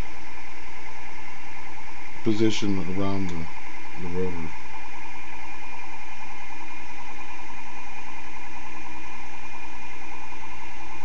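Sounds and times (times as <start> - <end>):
pulse motor humming: 0.0 - 11.0.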